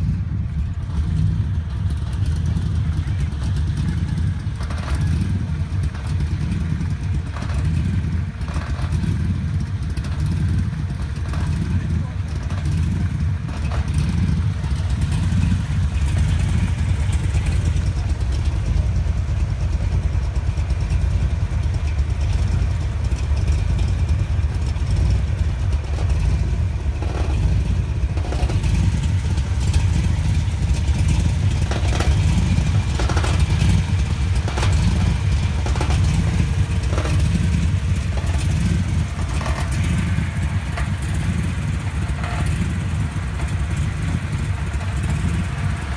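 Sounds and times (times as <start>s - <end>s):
car engine rumbling: 0.0s - 45.9s.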